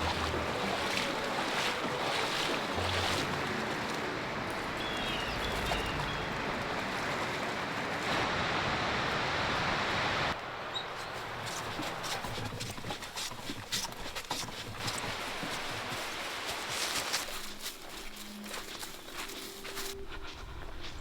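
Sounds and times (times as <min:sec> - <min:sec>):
rushing water: 0:00.0 - 0:20.0
wind: 0:00.0 - 0:21.0.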